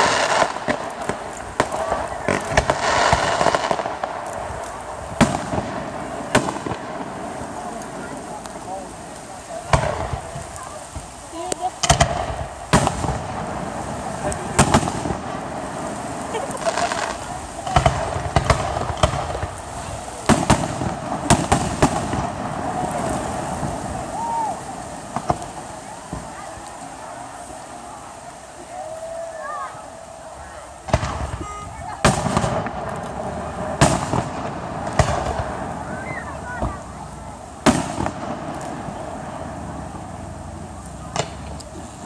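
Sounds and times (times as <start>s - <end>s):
fireworks bangs: 0.0s - 42.0s
fireworks crackling hiss: 0.0s - 42.0s.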